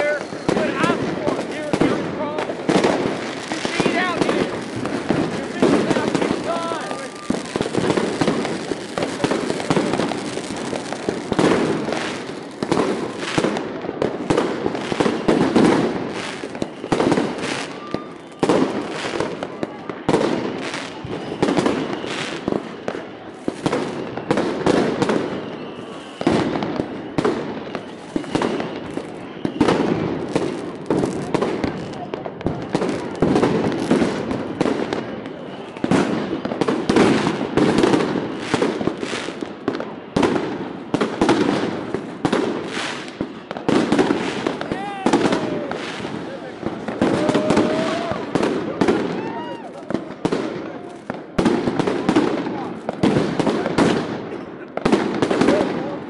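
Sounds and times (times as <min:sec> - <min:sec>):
crowd voices: 0:00.0 - 0:56.0
fireworks and firecrackers: 0:00.0 - 0:56.0.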